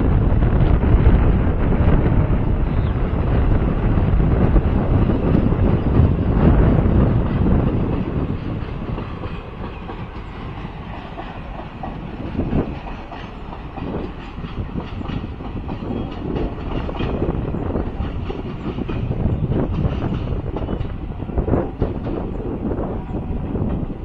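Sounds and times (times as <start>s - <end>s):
rumbling train noise: 0.0s - 24.0s
train wheels clicking over rail joints: 3.2s - 24.0s.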